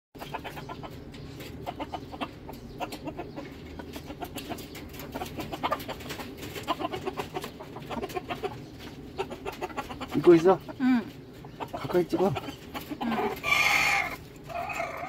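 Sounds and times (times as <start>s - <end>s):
hen clucking rapidly: 0.2s - 15.0s.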